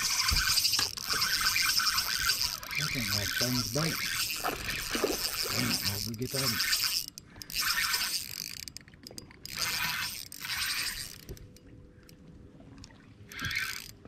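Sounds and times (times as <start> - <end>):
spinning reel winding: 0.0 - 8.8, 9.4 - 11.2, 13.3 - 14.0.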